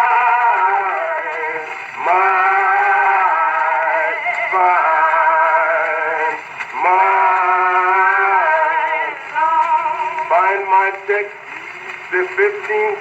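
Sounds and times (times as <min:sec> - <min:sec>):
congregation singing a hymn: 0:00.0 - 0:11.3.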